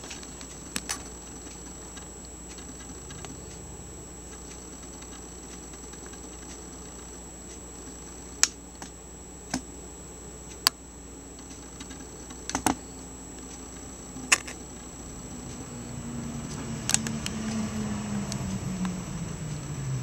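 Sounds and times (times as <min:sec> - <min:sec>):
faint low drone: 0:00.0 - 0:08.3, 0:11.9 - 0:20.0
steady low hum: 0:00.0 - 0:20.0.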